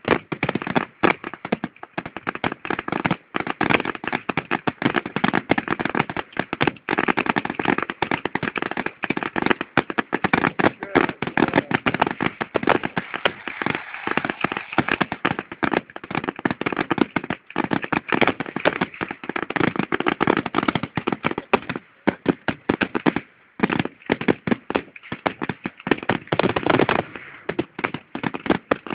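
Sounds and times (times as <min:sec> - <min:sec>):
fireworks crackling pops: 0:00.0 - 0:28.9.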